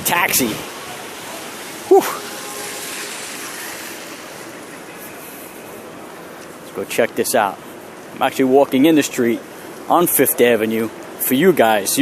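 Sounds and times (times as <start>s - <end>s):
cars passing on wet road: 0.0s - 12.0s.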